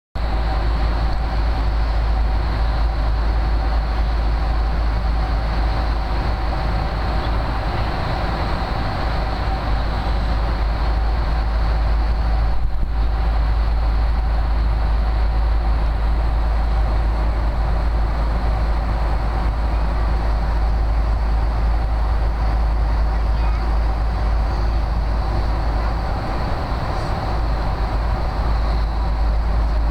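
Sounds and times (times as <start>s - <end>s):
airliner cabin rumble: 0.2s - 29.9s.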